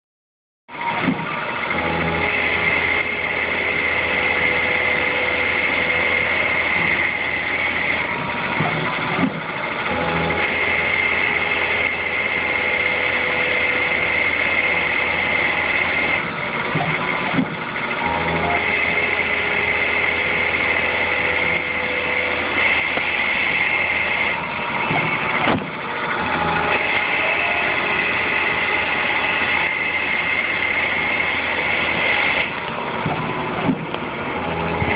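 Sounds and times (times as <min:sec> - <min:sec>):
lathe spindle hum with whine: 0:00.7 - 0:34.9.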